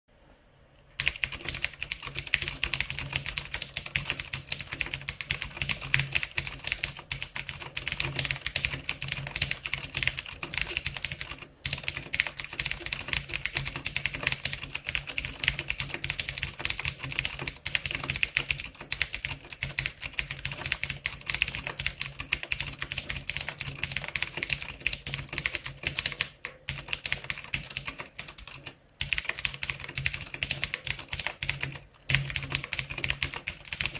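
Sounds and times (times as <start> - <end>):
fast typing on mechanical keyboard: 1.0 - 33.9.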